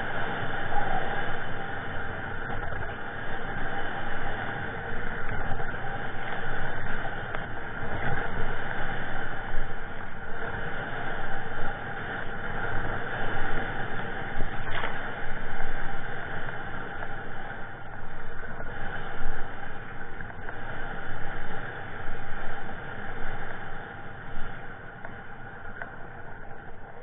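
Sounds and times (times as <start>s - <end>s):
gusty wind blowing across microphone: 0.0s - 27.0s.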